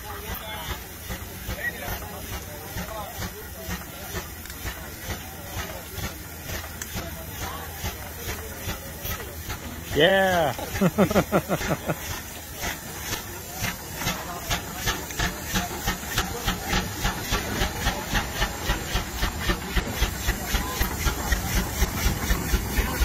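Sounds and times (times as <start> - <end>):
steam engine exhaust chuffing: 0.0 - 23.0
steam hissing: 0.0 - 23.0.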